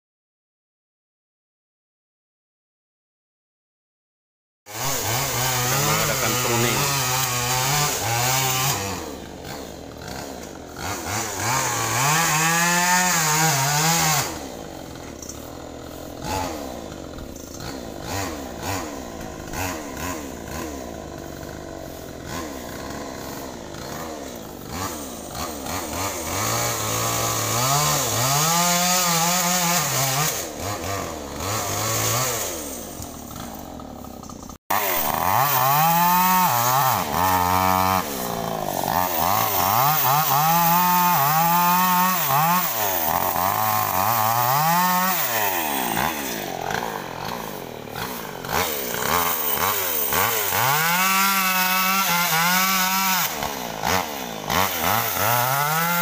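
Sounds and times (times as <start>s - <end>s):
chainsaw revving while cutting: 4.7s - 56.0s.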